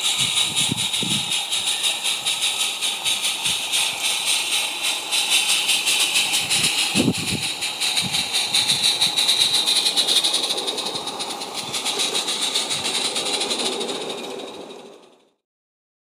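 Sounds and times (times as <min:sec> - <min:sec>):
steam hiss: 0:00.0 - 0:15.2
steam locomotive chuffing: 0:00.0 - 0:15.4.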